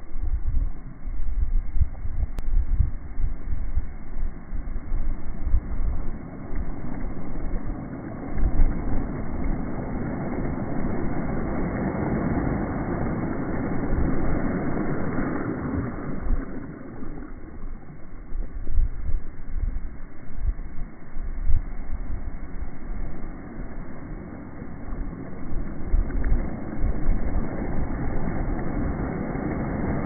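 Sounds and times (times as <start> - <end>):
low outdoor rumble: 0.0 - 30.0
wind buffeting microphone: 0.0 - 30.0.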